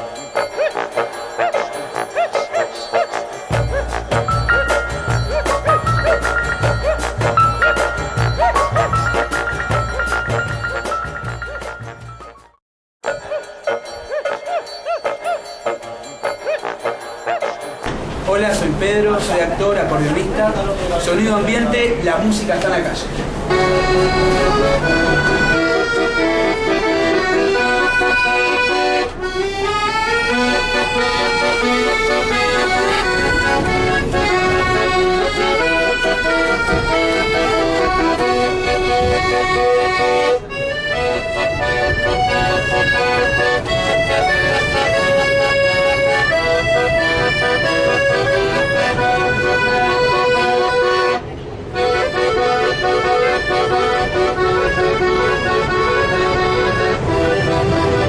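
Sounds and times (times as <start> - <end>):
accordion melody: 0.0 - 17.9, 23.4 - 58.0.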